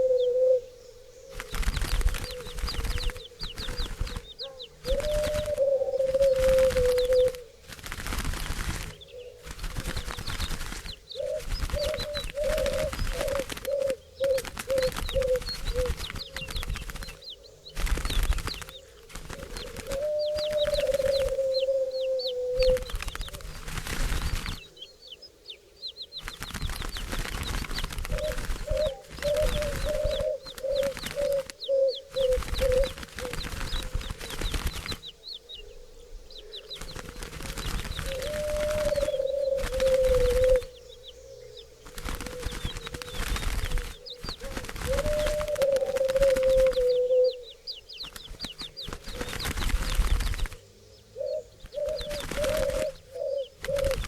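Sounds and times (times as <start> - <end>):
doves cooing: 0.0 - 25.2, 26.2 - 54.0
small birds chirping: 0.0 - 54.0
flapping wingbeats: 1.3 - 24.7, 26.2 - 35.2, 36.6 - 40.8, 41.8 - 50.7, 51.6 - 54.0.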